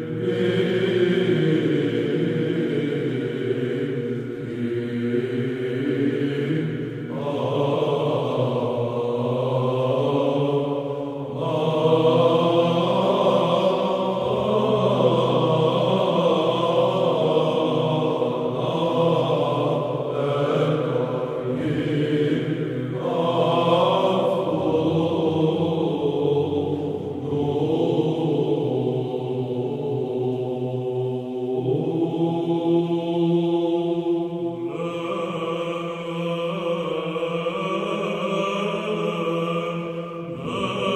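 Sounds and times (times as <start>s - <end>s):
chanted singing over drone: 0.0s - 40.9s.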